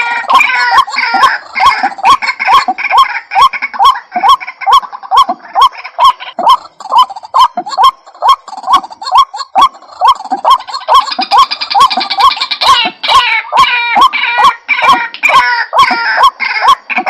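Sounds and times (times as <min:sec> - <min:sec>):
fast rattling bird call: 0:00.0 - 0:17.0.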